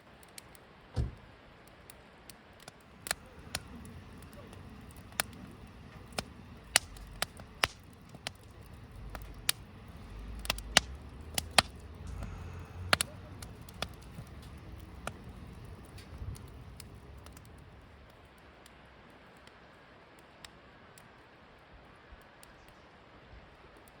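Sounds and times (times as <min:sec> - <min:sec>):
wood fire crackling and popping: 0:00.0 - 0:22.8
low fire rumble: 0:00.0 - 0:24.0.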